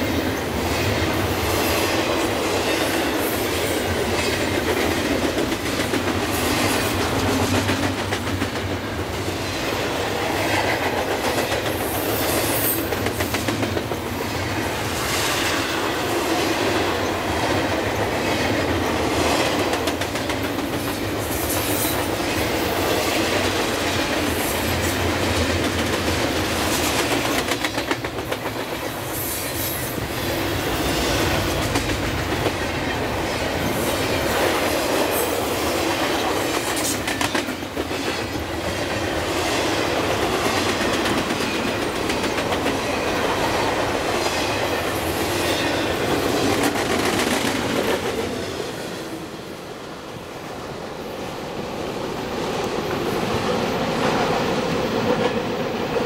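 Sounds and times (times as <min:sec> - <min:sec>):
wheels clickety-clack over track: 0:00.0 - 0:49.0, 0:52.4 - 0:56.0
freight train rumbling past: 0:00.0 - 0:56.0.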